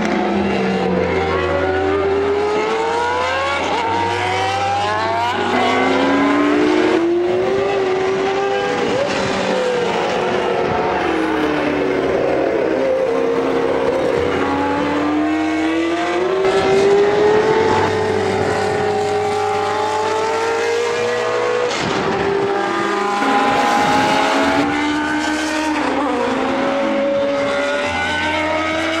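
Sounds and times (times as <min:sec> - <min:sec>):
racing car engine accelerating: 0:00.0 - 0:29.0.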